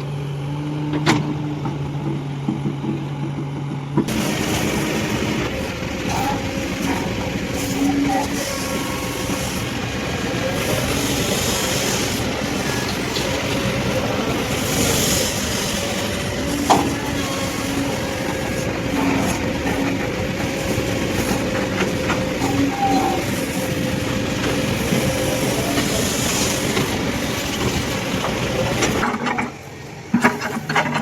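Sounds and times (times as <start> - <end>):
excavator diesel engine: 0.0 - 31.0.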